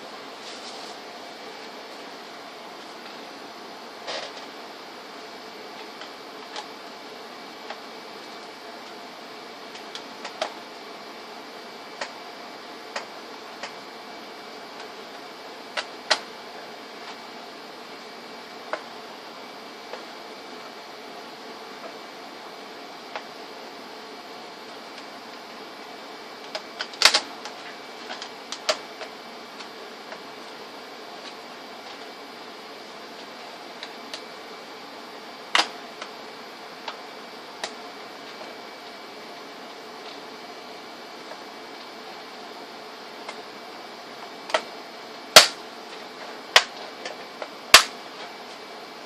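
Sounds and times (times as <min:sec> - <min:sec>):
steady hiss: 0:00.0 - 0:49.0.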